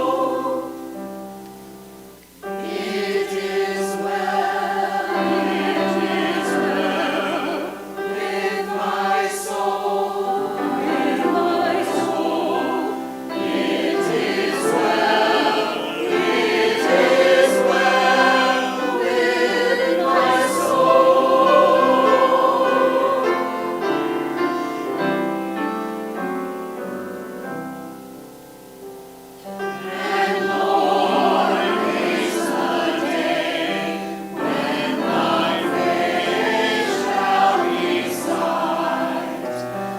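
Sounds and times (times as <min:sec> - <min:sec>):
choir singing a hymn: 0:00.0 - 0:28.1, 0:29.4 - 0:39.9.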